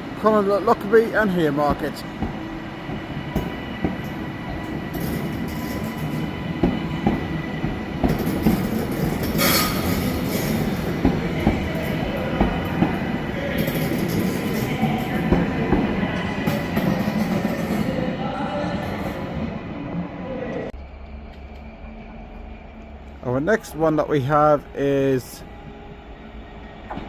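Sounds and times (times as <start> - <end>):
train wheels rumbling: 0.0 - 27.0.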